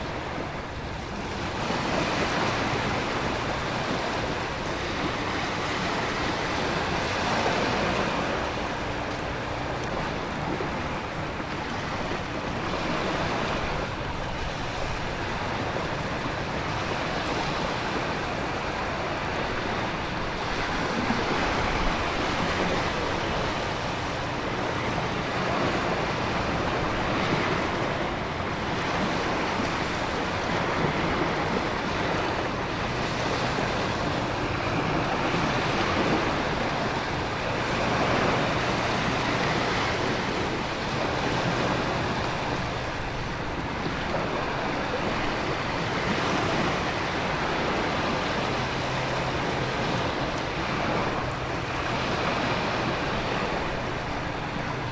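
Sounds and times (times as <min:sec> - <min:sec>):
ocean surf: 0:00.0 - 0:54.9
wind: 0:00.0 - 0:54.9.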